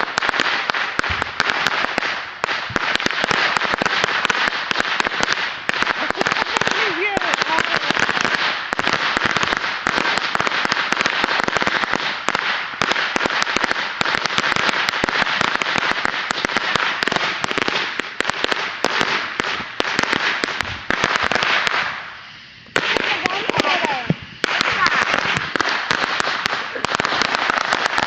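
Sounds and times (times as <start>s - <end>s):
fireworks popping and crackling: 0.0s - 28.0s.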